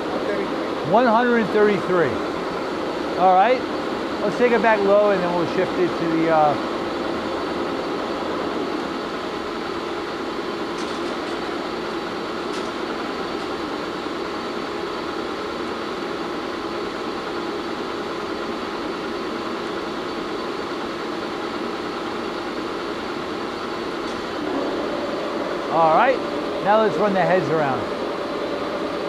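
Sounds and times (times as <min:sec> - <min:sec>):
lathe motor humming: 0:00.0 - 0:29.0.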